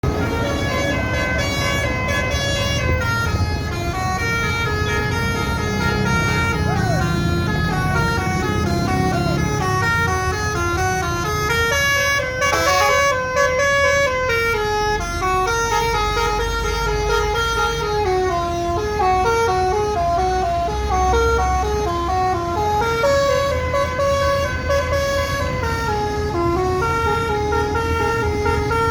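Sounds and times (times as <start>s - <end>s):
bus engine running: 0.0s - 28.9s
multi-tone air horn melody: 0.0s - 28.9s.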